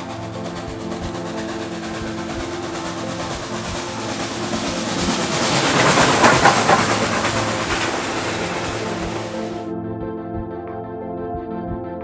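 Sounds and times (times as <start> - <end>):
wheels on rails: 0.0 - 9.6.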